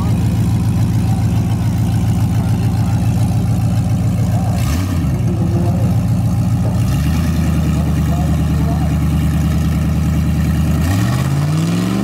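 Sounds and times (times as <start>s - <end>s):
truck engine idling choppy: 0.0s - 12.0s.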